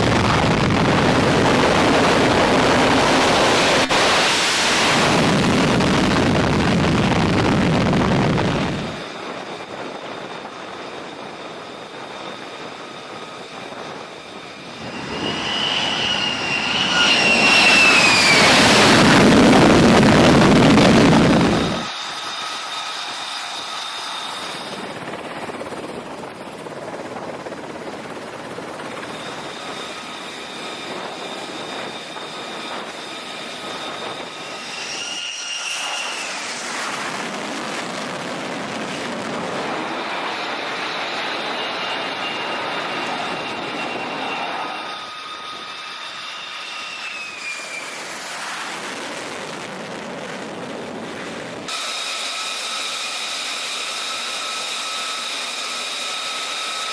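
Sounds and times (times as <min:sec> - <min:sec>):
high-pitched jet whines: 0:00.0 - 0:56.9
jet engines roaring: 0:00.0 - 0:56.9.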